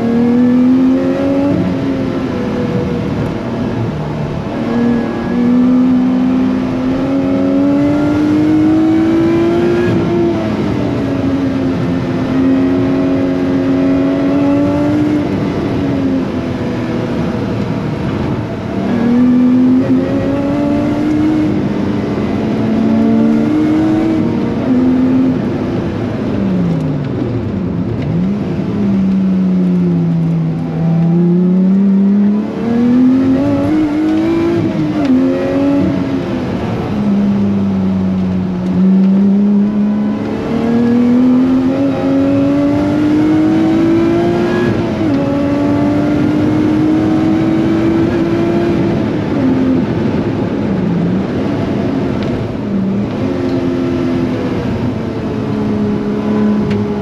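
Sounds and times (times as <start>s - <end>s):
car engine revving hard: 0.0s - 26.8s, 29.6s - 57.0s.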